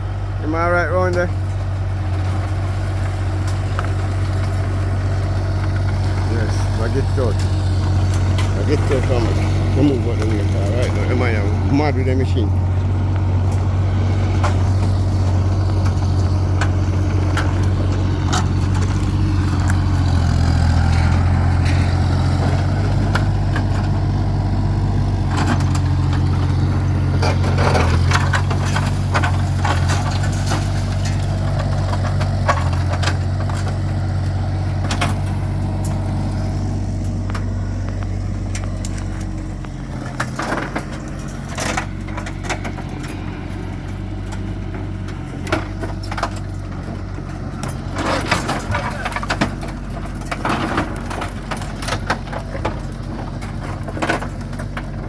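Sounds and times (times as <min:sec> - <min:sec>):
heavy machine engine running: 0:00.0 - 0:55.0
metal clanks and knocks: 0:01.0 - 0:55.0.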